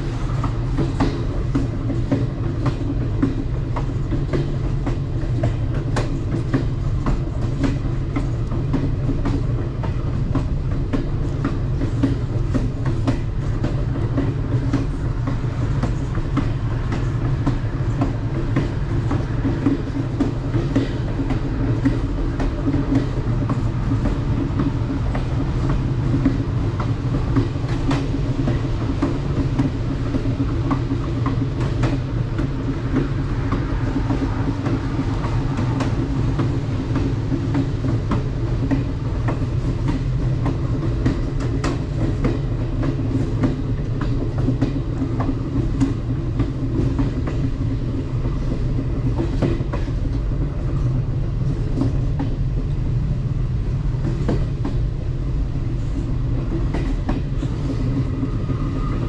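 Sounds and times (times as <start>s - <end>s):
train rumbling on track: 0.0s - 59.0s
wheels clicking on rails: 0.0s - 59.0s.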